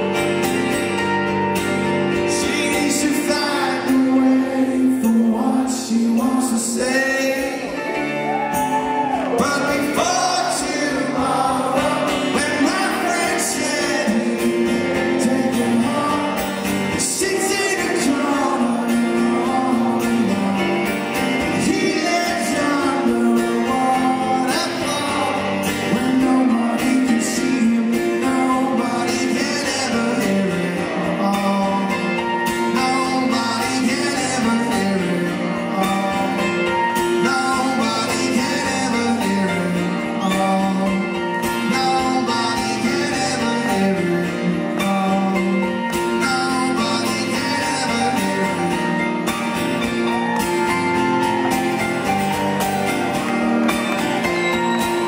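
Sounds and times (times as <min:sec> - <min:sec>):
acoustic guitar: 0:00.0 - 0:55.0
man singing: 0:02.0 - 0:49.9.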